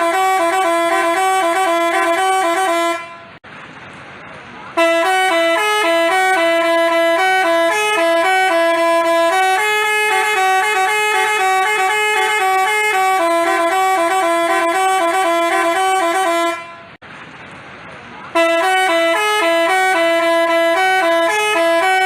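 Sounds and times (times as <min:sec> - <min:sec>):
bus horn playing a tune: 0:00.0 - 0:03.4, 0:04.7 - 0:17.0, 0:18.3 - 0:22.0.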